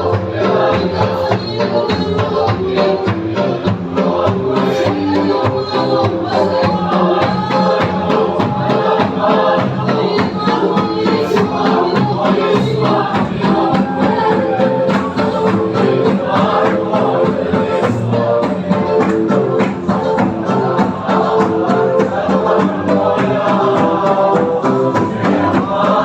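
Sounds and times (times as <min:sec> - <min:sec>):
congregation singing a hymn: 0:00.0 - 0:26.0
steady percussion: 0:00.0 - 0:26.0.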